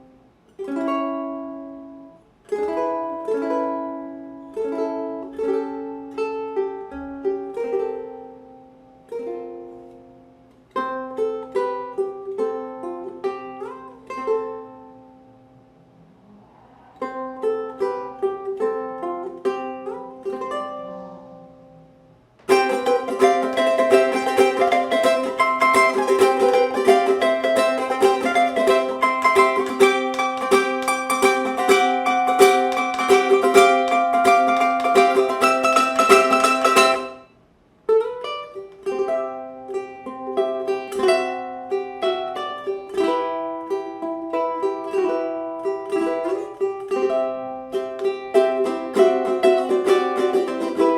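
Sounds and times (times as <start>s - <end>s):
ukulele playing: 0.0s - 50.9s.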